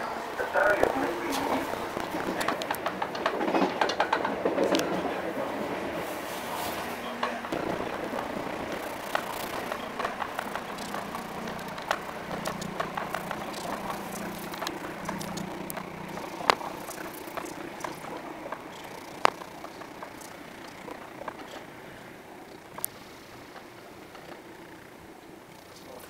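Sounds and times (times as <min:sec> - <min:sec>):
train interior rumble: 0:00.0 - 0:26.0
wheels clacking over track: 0:00.0 - 0:26.0.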